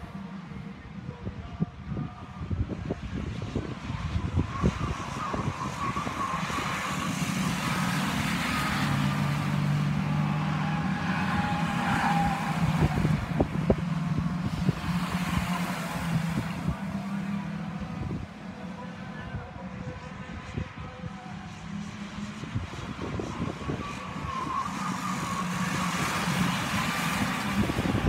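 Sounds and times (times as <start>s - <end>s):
race car engines: 0.0s - 28.0s.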